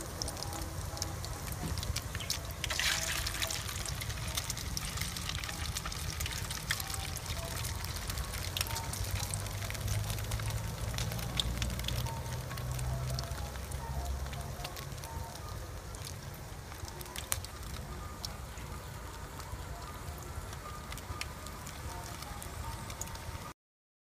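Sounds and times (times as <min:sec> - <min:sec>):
oil sizzling and popping: 0:00.0 - 0:23.5.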